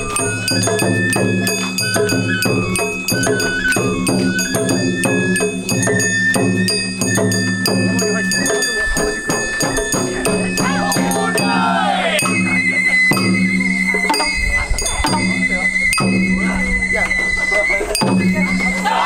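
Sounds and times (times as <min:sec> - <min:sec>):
bamboo flute: 0:00.0 - 0:19.0
drums beating: 0:00.0 - 0:19.0.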